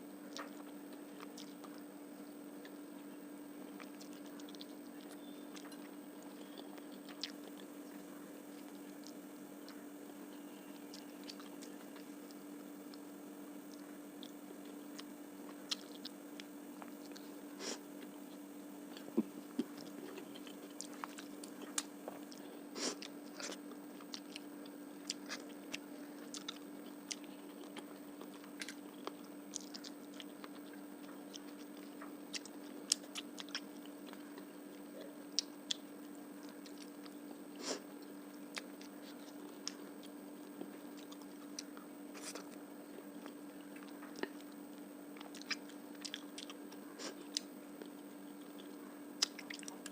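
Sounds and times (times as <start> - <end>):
person chewing food: 0.3 - 1.9, 3.6 - 35.8, 36.4 - 49.9.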